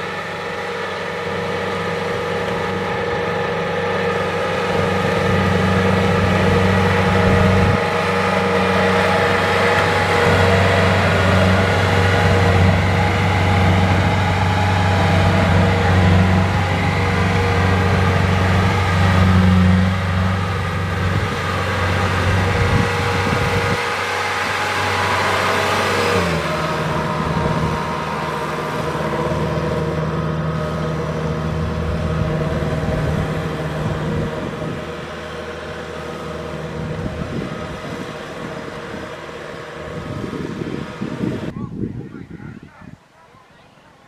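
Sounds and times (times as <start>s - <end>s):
combine harvester diesel engine: 0.0s - 44.0s.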